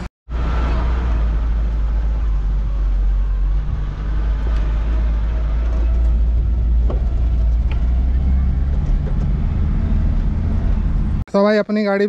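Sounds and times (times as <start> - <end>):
vehicle engine rumbling: 0.0 - 11.3.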